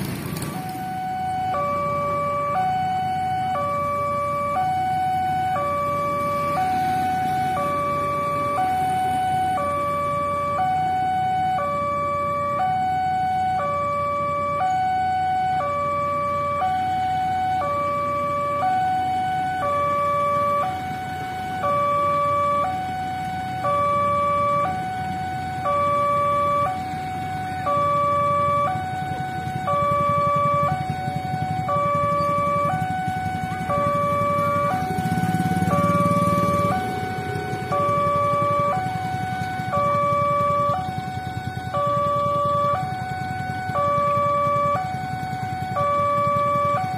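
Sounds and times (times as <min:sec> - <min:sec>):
traffic and motorbikes rumbling: 0:00.0 - 0:46.9
two-tone crossing alarm chime: 0:00.5 - 0:46.9.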